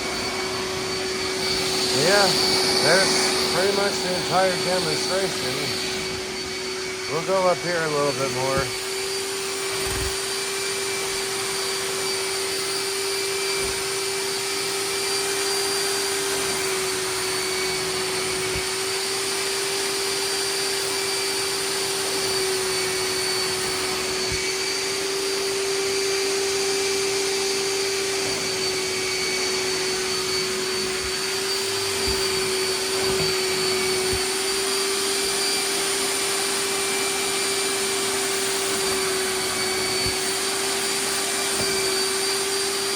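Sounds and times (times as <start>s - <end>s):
wet vacuum running: 0.0s - 42.9s.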